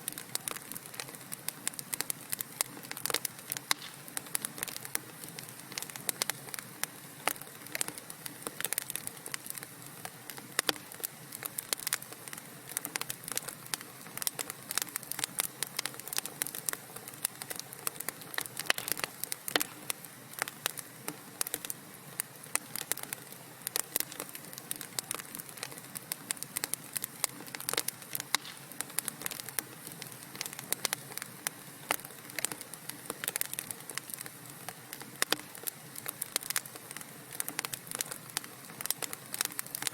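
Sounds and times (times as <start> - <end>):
faint steady hiss: 0.0 - 39.9
wood fire crackling and popping: 0.0 - 39.9.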